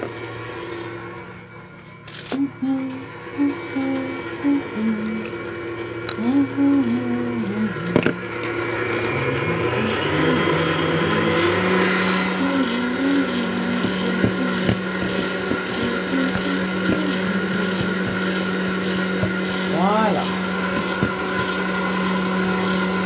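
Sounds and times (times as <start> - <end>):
electric mixer motor running: 0.0 - 23.0.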